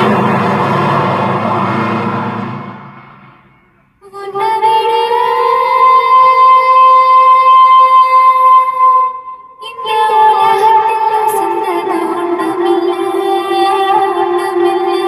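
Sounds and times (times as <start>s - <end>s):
song through stereo speakers: 2.6s - 15.0s.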